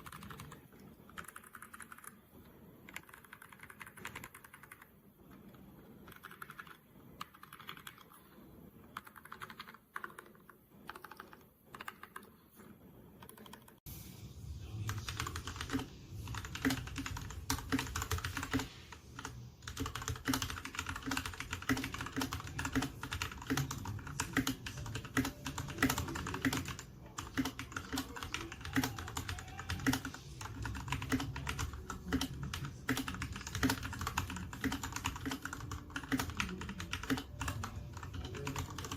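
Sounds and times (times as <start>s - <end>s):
fast typing on mechanical keyboard: 0.0s - 12.4s, 13.2s - 13.8s, 14.8s - 38.9s.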